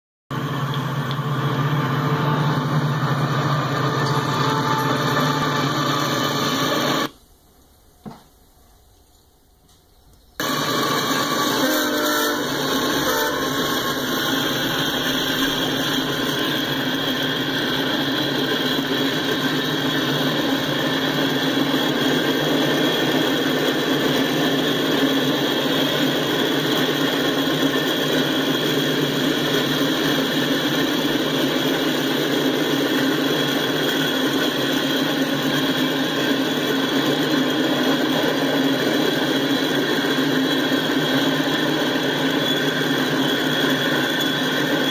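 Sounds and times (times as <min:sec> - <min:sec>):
freight train wheels rumbling: 0:00.3 - 0:07.2, 0:09.4 - 0:44.9.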